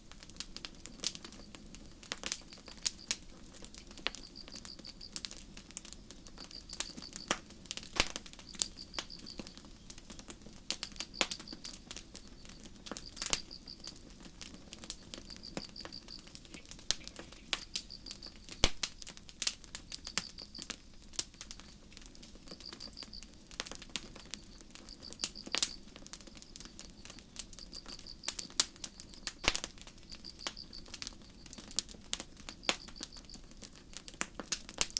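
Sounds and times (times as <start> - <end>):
campfire crackling and popping: 0.0 - 34.9
crickets chirping: 0.7 - 10.1, 10.8 - 33.7.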